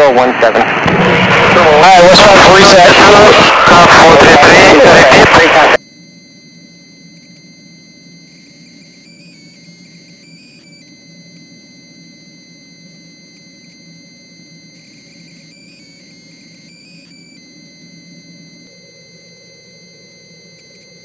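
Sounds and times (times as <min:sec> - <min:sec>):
high electrical whine: 0:00.0 - 0:21.0.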